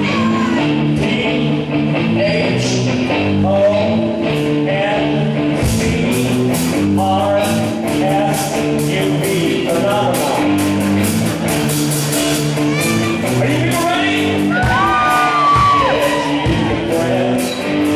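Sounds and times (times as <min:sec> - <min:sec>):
person singing: 0:00.0 - 0:10.6, 0:12.5 - 0:17.9
rock band playing: 0:00.0 - 0:17.9.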